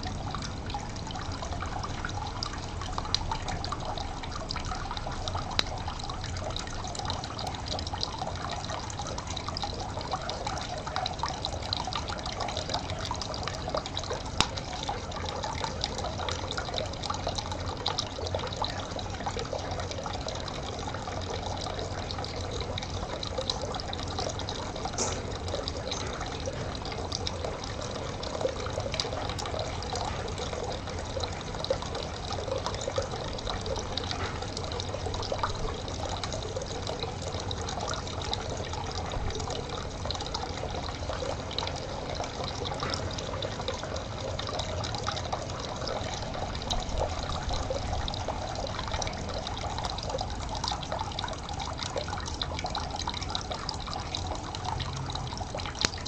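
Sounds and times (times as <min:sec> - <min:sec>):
water dripping and splashing: 0:00.0 - 0:56.0
water trickling: 0:00.0 - 0:56.0.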